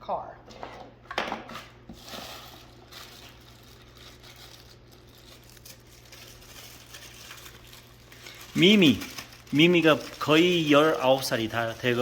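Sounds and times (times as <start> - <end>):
packaging rustling: 1.9 - 12.0.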